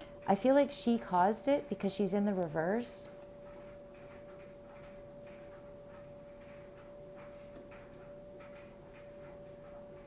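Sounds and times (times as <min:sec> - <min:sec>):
faint steady hum: 0:00.0 - 0:10.0
soft ticks and rustles: 0:01.0 - 0:10.0.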